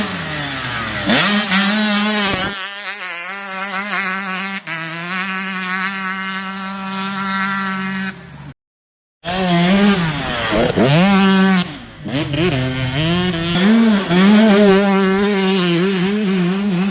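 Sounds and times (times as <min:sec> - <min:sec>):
dirt bike engine revving: 0:00.0 - 0:08.2, 0:09.3 - 0:16.9.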